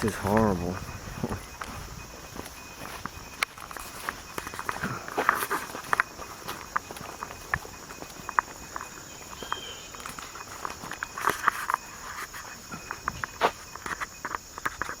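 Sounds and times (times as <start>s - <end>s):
crickets droning: 0.0s - 15.0s
footsteps walking: 0.0s - 15.0s.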